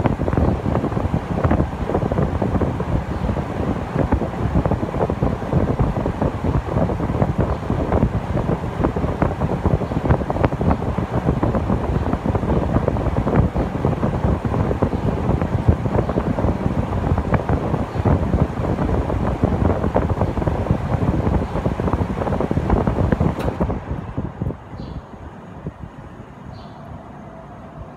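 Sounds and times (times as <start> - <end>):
air conditioner fan blowing: 0.0 - 27.9
wind buffeting on microphone: 0.0 - 27.9.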